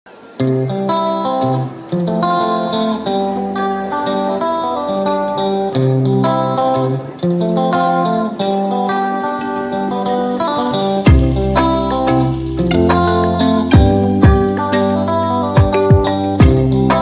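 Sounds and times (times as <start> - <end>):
plucked guitar music: 0.1 - 17.0.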